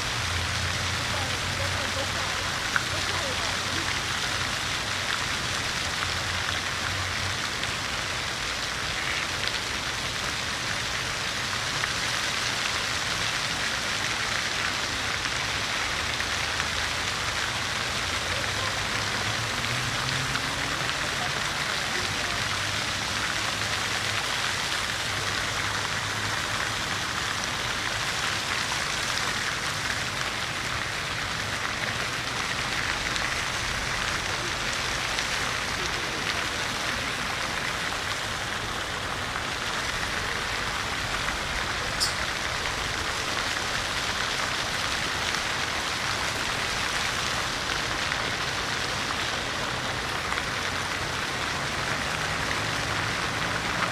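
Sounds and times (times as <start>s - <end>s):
fountain water splashing: 0.0s - 53.9s.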